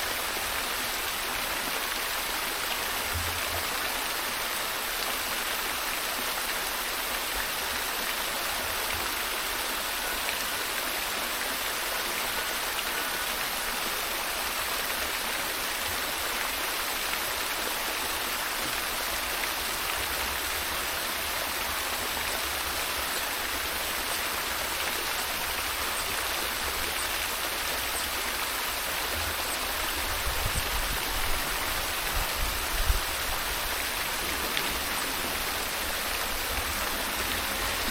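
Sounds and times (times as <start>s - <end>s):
stream flowing: 0.0s - 37.9s.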